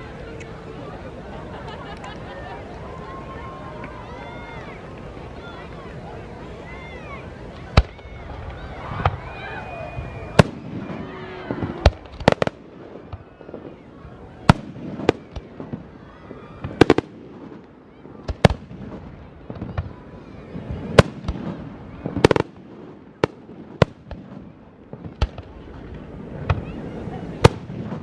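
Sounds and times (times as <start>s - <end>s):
murmur of voices: 0.0s - 28.0s
fireworks bangs: 3.3s - 28.0s.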